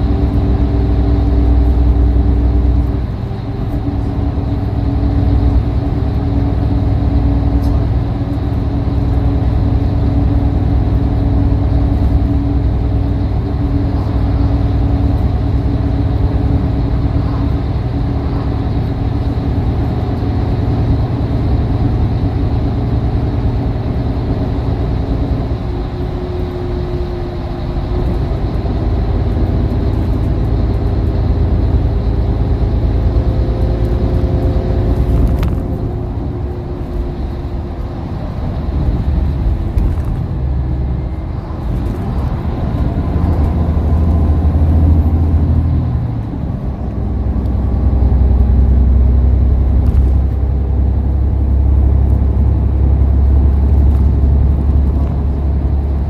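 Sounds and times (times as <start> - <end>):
diesel coach engine rumble: 0.0 - 56.0
tyre and road noise: 0.0 - 56.0.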